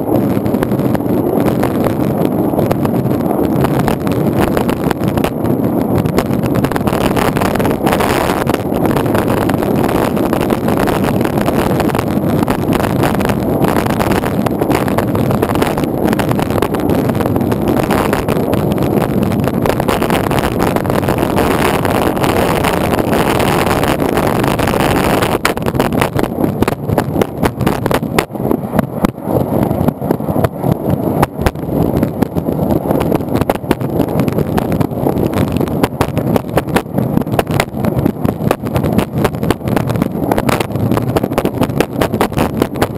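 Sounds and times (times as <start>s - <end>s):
longboard wheels rumbling on asphalt: 0.0s - 42.9s.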